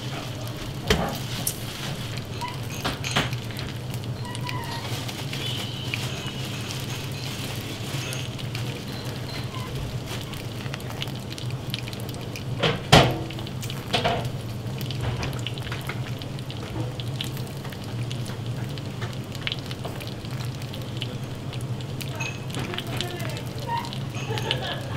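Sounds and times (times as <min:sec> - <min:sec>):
bacon sizzling on a grill: 0:00.0 - 0:24.9.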